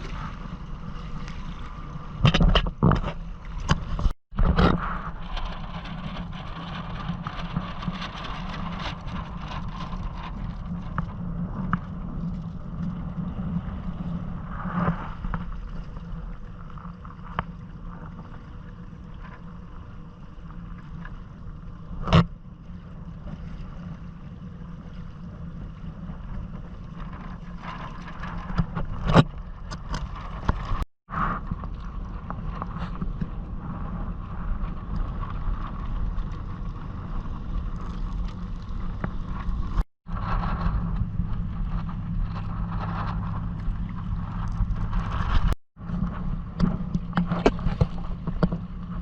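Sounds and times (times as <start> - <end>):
water noise: 0.0 - 49.0
wind: 0.0 - 49.0.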